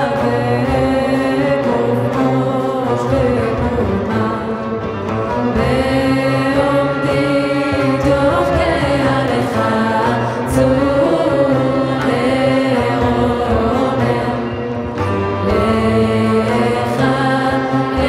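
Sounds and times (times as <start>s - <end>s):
women's ensemble singing: 0.0s - 18.0s.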